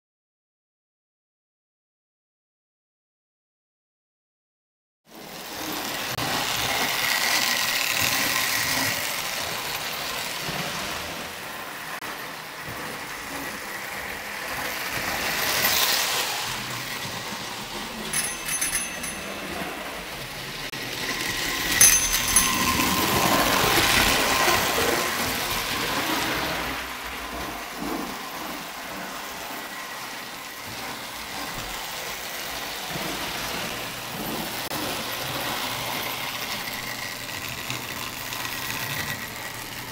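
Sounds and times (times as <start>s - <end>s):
toy train rattling whir: 5.1s - 39.9s.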